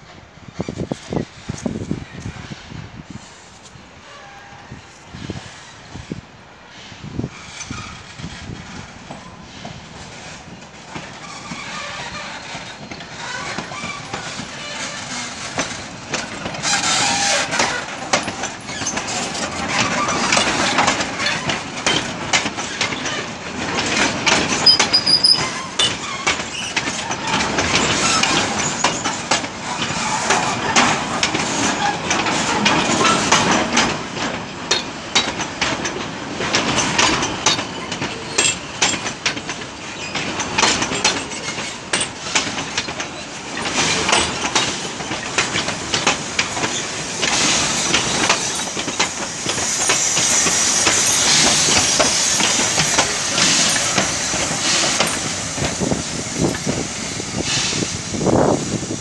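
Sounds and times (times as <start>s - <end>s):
train wheels clacking over rails: 0.0s - 59.0s.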